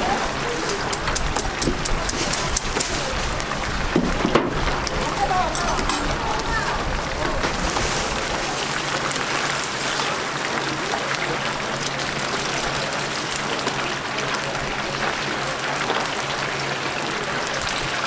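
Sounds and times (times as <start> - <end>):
oil sizzling and crackling: 0.0 - 18.0.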